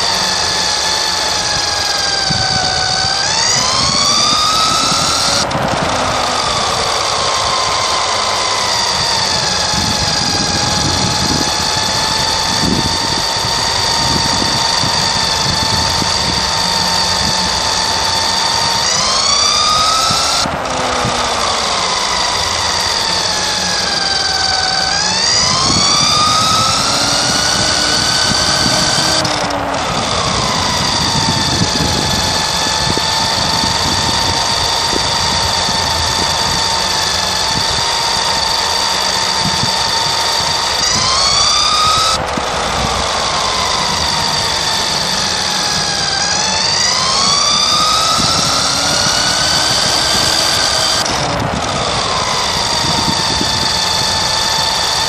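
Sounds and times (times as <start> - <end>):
rc car electric motor whining: 0.0 - 55.0
tyres rumbling on track: 0.0 - 55.0.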